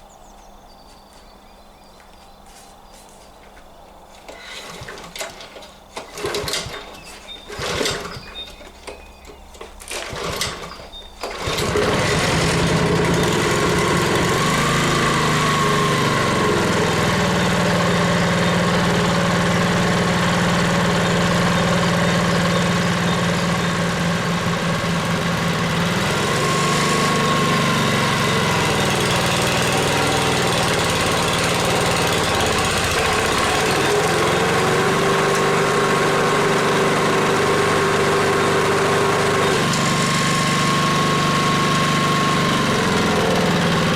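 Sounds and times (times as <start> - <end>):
lawnmower engine running: 4.2 - 43.9
starter cord pulls: 4.2 - 43.9.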